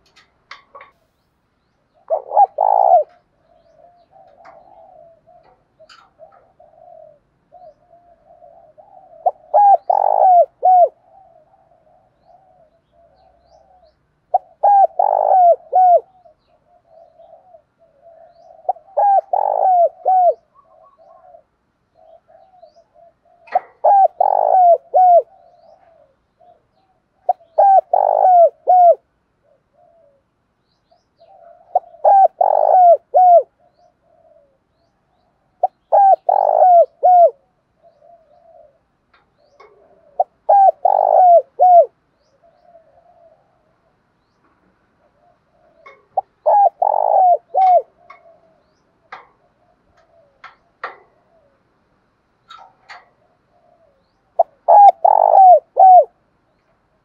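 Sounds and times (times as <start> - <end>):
dove cooing: 1.9 - 57.0.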